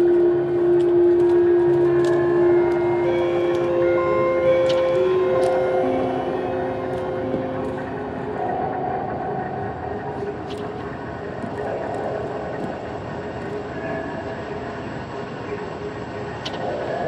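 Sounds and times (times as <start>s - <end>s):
faint humming tones: 0.0s - 17.0s.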